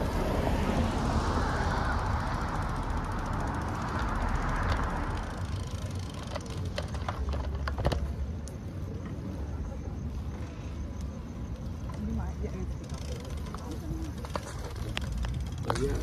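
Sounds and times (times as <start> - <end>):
bicycle clicks and rattles: 1.6 - 16.0.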